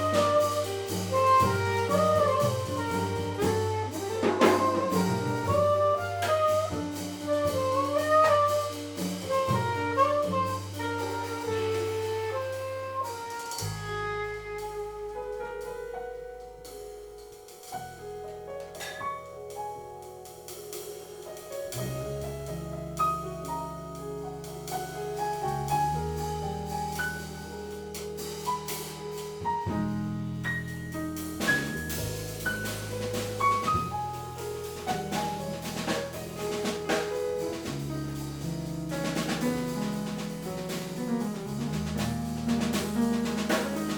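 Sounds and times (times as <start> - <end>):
double bass: 0.0 - 43.9
drums with cymbals: 0.0 - 43.9
piano: 0.0 - 43.9.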